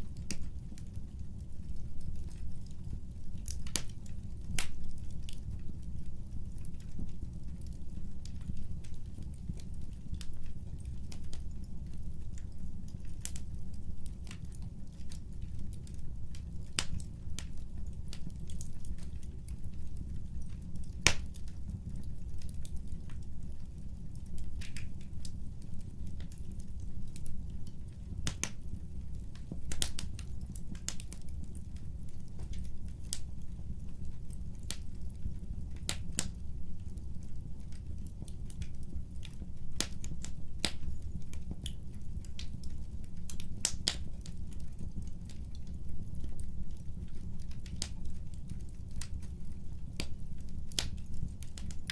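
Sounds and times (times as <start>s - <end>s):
low fire rumble: 0.0s - 51.9s
wood fire crackling and popping: 0.0s - 51.9s.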